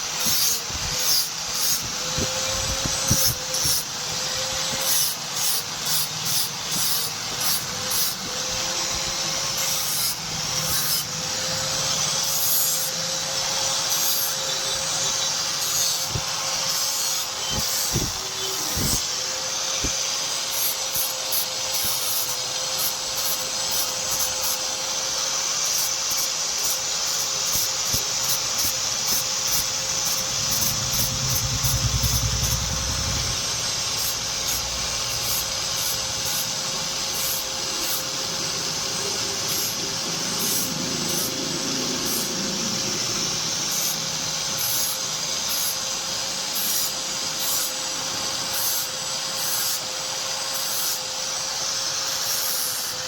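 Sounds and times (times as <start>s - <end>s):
rasping on steel blade: 0.0s - 38.6s, 43.6s - 53.0s
power tool humming: 0.0s - 53.0s.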